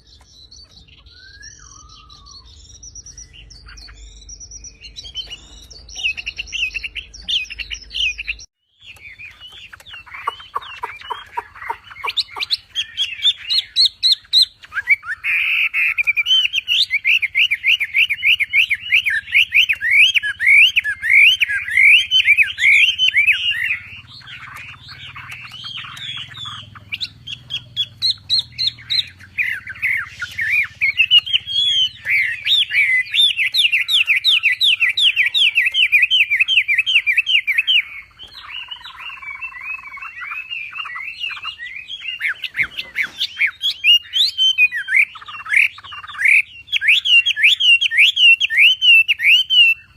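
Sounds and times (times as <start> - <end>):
songbird chattering song: 0.0 - 49.9.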